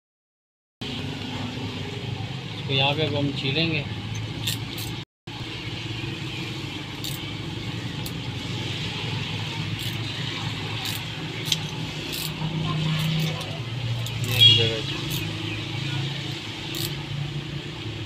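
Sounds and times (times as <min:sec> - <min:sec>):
vehicle engine humming: 0:00.8 - 0:18.0.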